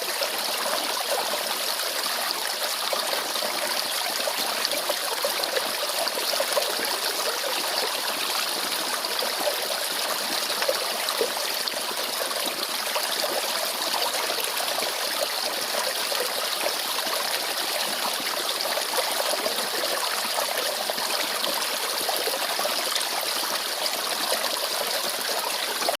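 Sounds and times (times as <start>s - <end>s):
stream babbling: 0.0s - 26.0s.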